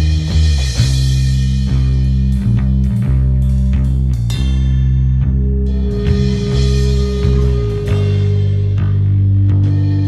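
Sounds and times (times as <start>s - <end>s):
fuzz blues rock guitar and bass: 0.0s - 10.0s.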